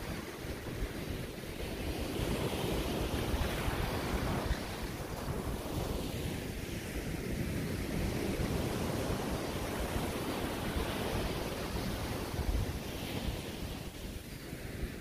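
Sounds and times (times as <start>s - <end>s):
small waves washing up a beach: 0.0s - 15.0s
wind rumbling on microphone: 0.0s - 15.0s.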